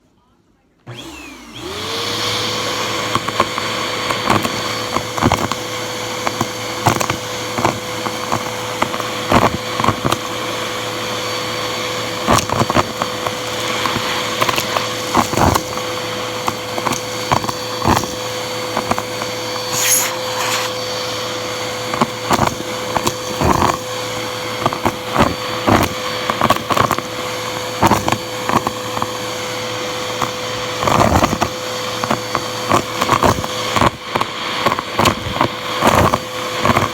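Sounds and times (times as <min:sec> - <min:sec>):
vacuum cleaner whine: 0:00.0 - 0:36.9.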